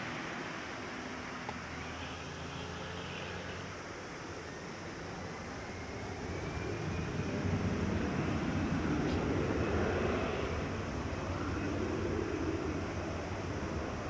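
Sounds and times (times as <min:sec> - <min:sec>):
jet engines taking off: 0:00.0 - 0:14.0.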